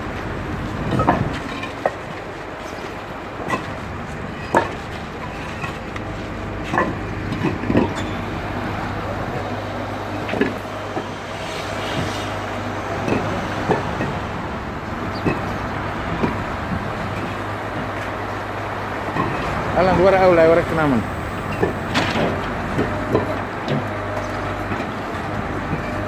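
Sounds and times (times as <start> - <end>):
outdoor din with low hum: 3.5 - 24.8.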